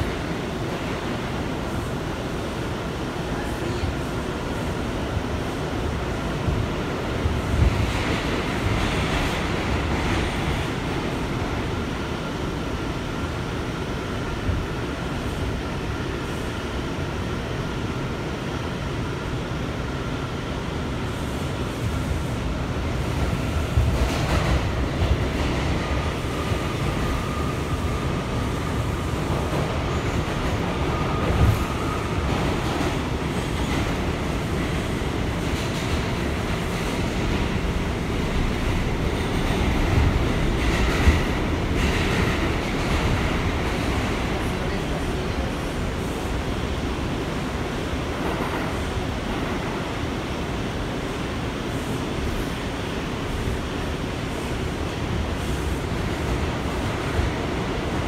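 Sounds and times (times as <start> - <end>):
subway car rumbling in tunnel: 0.0 - 58.0.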